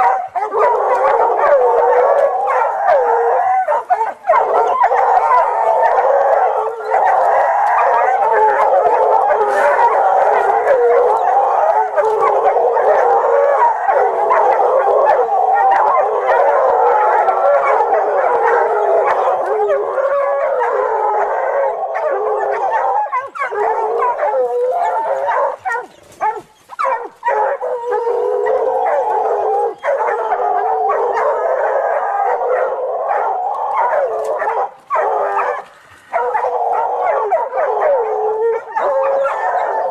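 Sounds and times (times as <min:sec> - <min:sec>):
hound baying and howling: 0:00.0 - 0:39.9.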